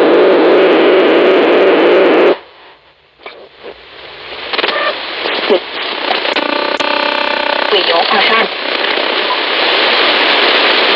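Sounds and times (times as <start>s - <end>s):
loud radio jamming hiss: 0.0s - 10.9s
radio static with clicks: 0.0s - 10.9s
snatches of radio signal: 0.0s - 10.9s.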